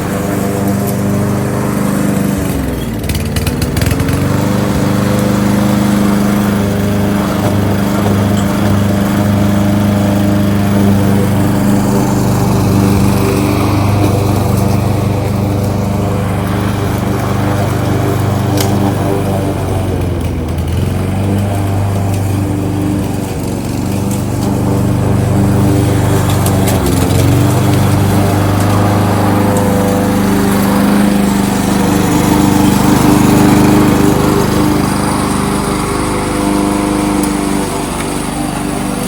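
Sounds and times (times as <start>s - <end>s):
lawnmower engine running: 0.0s - 39.0s.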